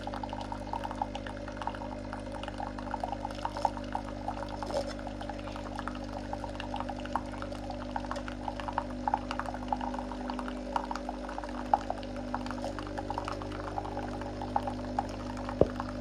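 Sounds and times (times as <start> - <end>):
liquid bubbling and popping: 0.0 - 16.0
machine humming: 0.0 - 16.0.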